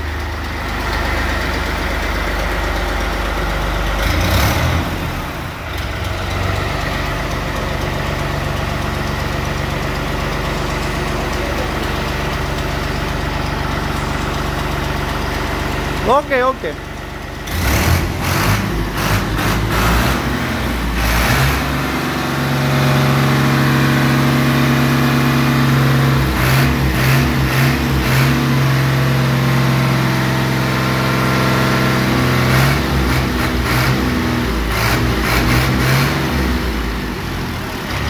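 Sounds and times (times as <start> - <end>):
tractor diesel engine revving: 0.0 - 38.0.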